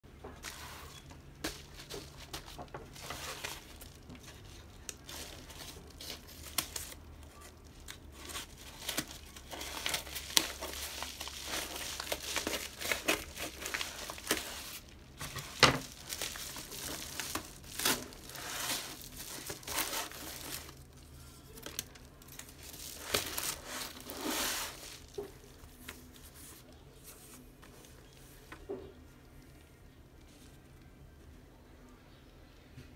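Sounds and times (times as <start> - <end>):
paper rustling: 0.2 - 28.7
padded mailer crinkling and tearing: 0.4 - 28.2.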